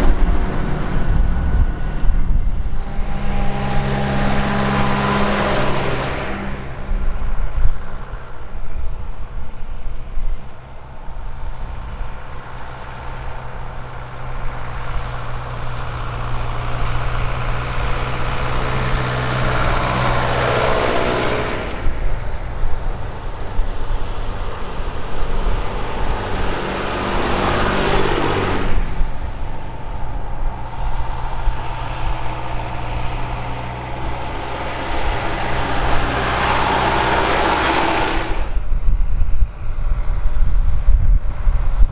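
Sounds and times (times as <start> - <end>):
tractor engines passing by: 0.0 - 41.9.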